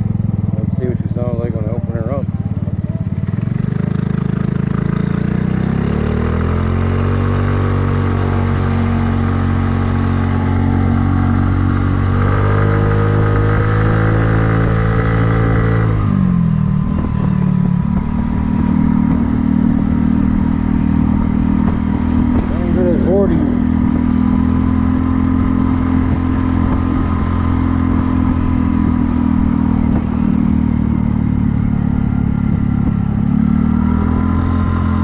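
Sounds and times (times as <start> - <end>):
scooter engine running: 0.0 - 35.0.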